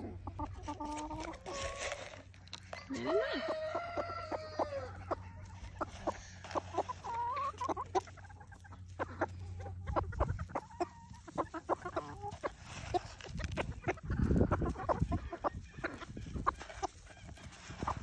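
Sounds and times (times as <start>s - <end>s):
hens clucking: 0.0s - 18.0s.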